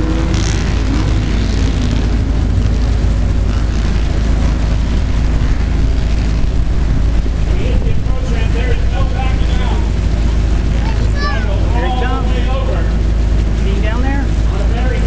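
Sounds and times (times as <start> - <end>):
helicopter engines and rotors rumbling: 0.0 - 15.0.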